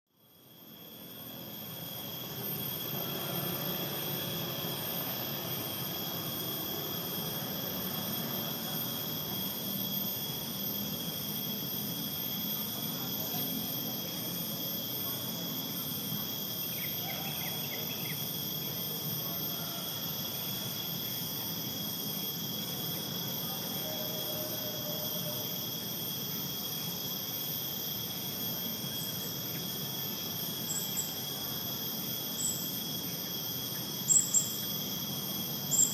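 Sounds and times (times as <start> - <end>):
insects trilling: 0.1 - 35.9.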